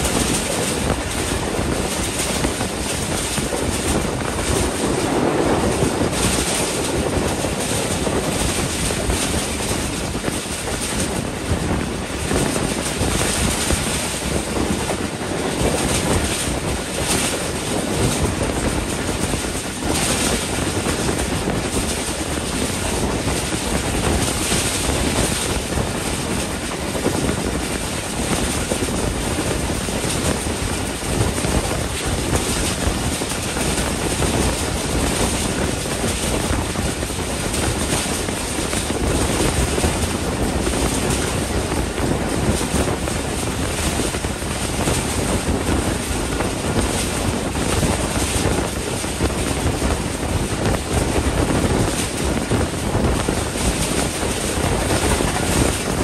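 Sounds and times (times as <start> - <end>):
train wheels rumbling on rails: 0.0 - 56.0
wind rushing past microphone: 0.0 - 56.0.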